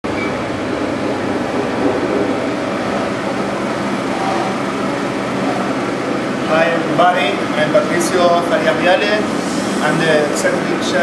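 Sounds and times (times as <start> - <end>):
ventilation fan whirring: 0.0 - 11.0.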